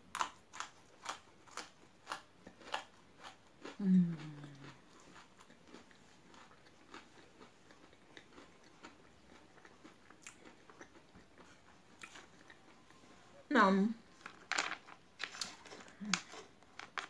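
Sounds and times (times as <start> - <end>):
chewing crunchy biscuit sticks: 0.0 - 13.0, 14.2 - 17.0.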